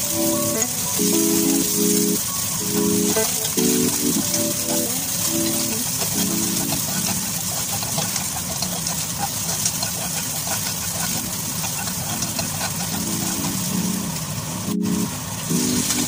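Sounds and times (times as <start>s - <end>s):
food sizzling in wok: 0.0s - 16.0s
steady low hum: 0.0s - 16.0s.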